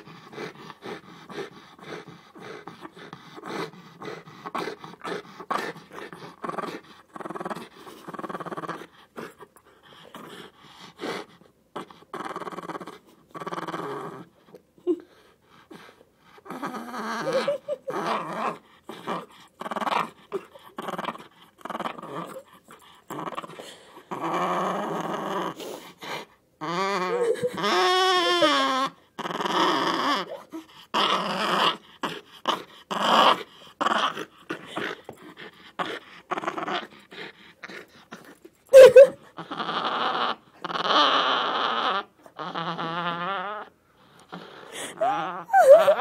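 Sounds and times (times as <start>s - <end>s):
dog growling and grumbling: 0.0s - 46.0s.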